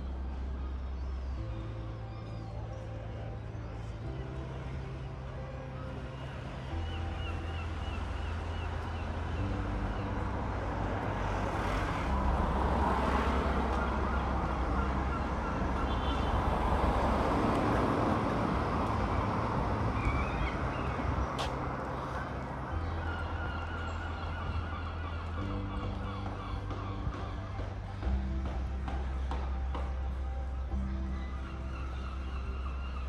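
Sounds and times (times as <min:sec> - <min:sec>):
road traffic hum: 0:00.0 - 0:33.0
vehicle passing: 0:05.7 - 0:33.0.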